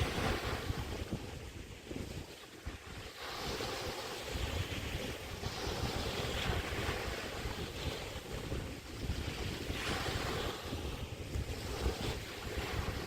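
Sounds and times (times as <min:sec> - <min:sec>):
small waves breaking: 0:00.0 - 0:13.0
wind on microphone: 0:00.0 - 0:13.0.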